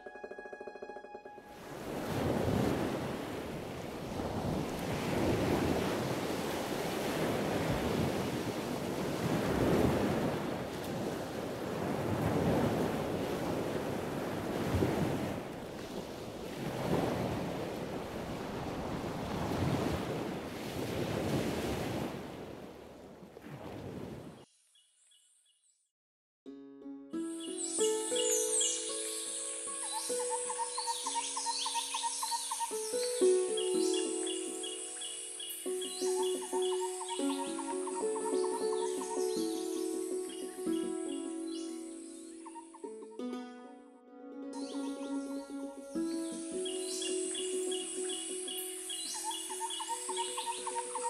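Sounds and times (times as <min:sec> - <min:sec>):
sea surf breaking on a beach: 0:01.5 - 0:24.4, 0:28.1 - 0:43.0, 0:45.9 - 0:51.0.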